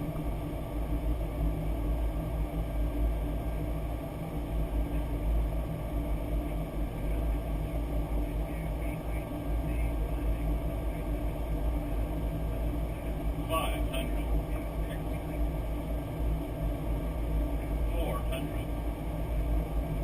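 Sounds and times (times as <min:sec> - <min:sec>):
airflow and engine rumble: 0:00.0 - 0:20.0
faint steady tones: 0:00.0 - 0:20.0.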